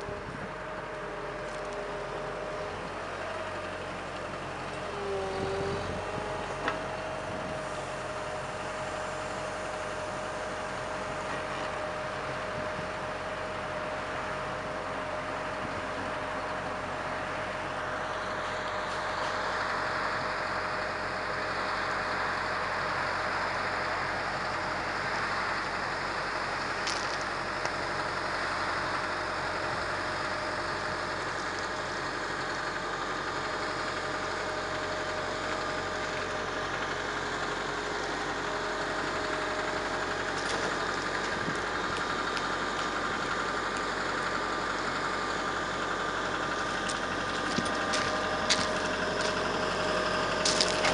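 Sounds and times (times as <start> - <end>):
diesel engine idling: 0.0 - 50.9
steady whine: 0.0 - 50.9.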